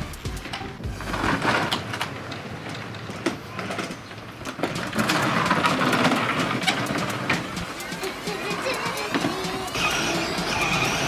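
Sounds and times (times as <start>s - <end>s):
plastic toy wheels rattling: 0.0s - 11.0s.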